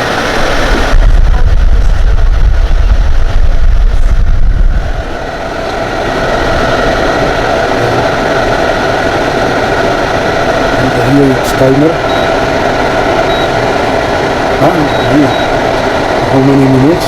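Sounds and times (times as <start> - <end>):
air blast buffeting microphone: 0.0 - 17.0
air conditioner fan hum: 0.0 - 17.0.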